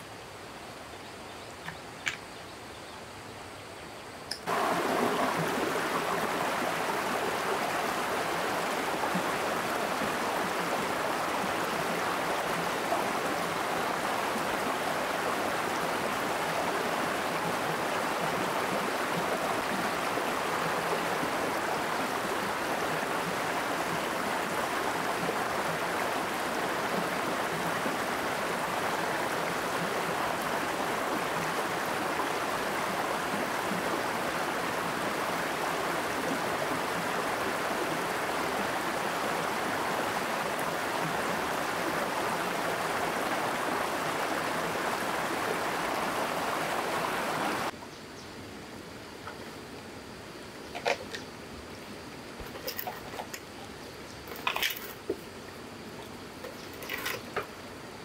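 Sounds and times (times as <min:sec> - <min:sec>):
stream rushing over stones: 0:04.3 - 0:47.8, 0:49.0 - 0:58.0.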